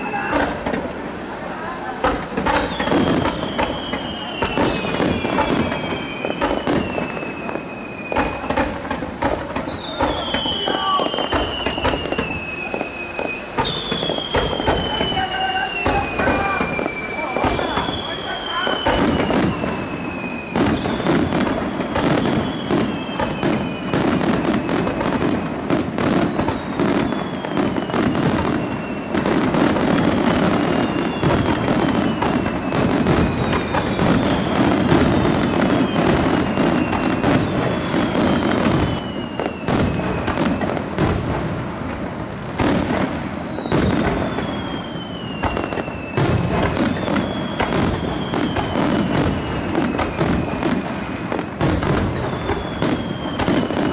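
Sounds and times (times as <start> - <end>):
fireworks bangs and crackling: 0.0 - 53.9
fireworks whistles: 0.0 - 53.9.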